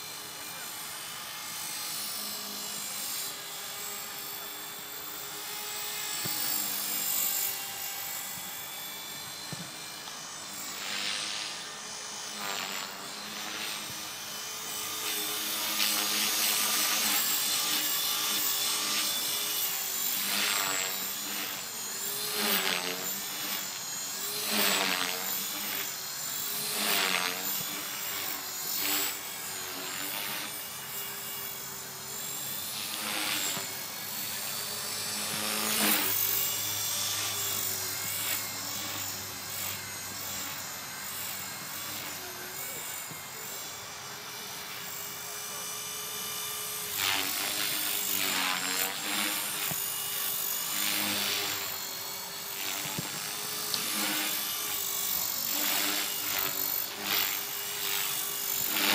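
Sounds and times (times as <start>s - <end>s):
rc helicopter rotor whine: 0.0s - 58.9s.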